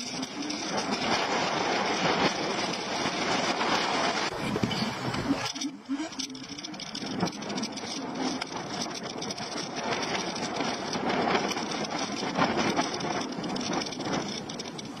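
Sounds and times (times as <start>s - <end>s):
street noise with rattling clicks: 0.0s - 15.0s.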